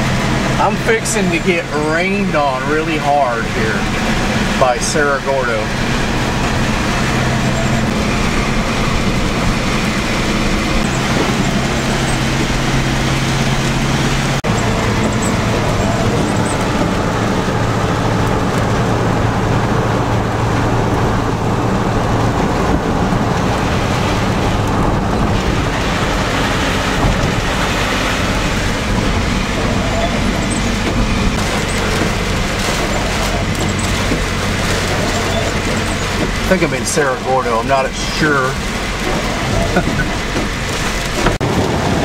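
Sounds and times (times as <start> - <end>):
car road and engine noise: 0.0 - 42.0
rain hiss: 0.1 - 42.0.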